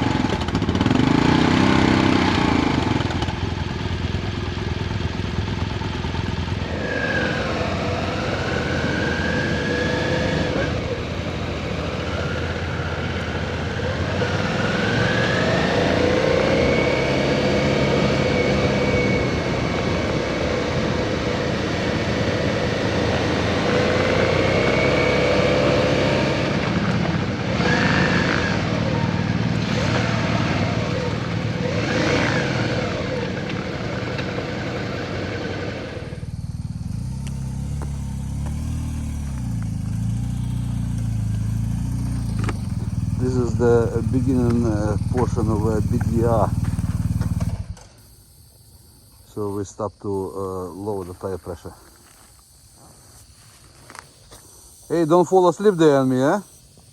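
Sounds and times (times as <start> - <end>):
motorcycle engine accelerating: 0.0 - 48.2.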